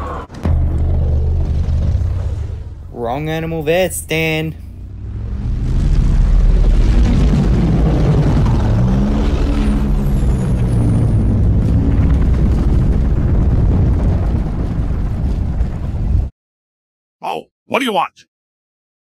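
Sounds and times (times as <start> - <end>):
heavy vehicle engine rumble: 0.0 - 3.9, 4.5 - 16.3.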